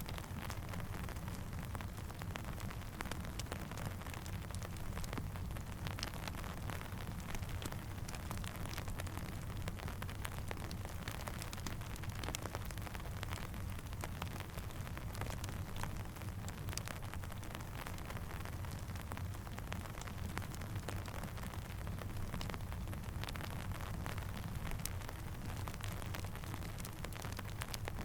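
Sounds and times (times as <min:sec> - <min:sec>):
campfire crackling: 0:00.0 - 0:28.0
steady rain: 0:00.0 - 0:28.0.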